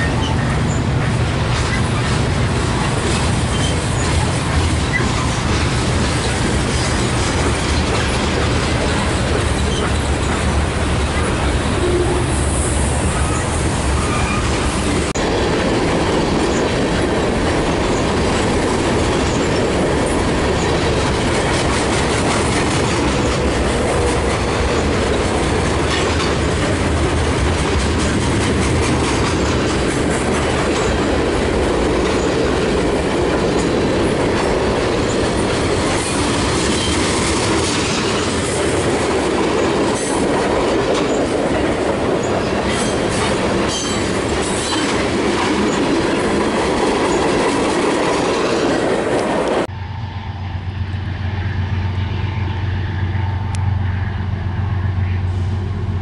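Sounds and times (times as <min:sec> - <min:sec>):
wheels clicking over rail joints: 0:00.0 - 0:12.2, 0:13.2 - 0:49.7
steel wheels rumbling on rail: 0:00.0 - 0:56.0.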